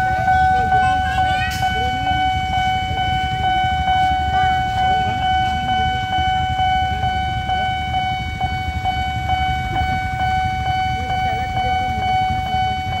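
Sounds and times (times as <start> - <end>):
level crossing alarm tone: 0.0 - 13.0
motorbike engines idling: 0.0 - 13.0.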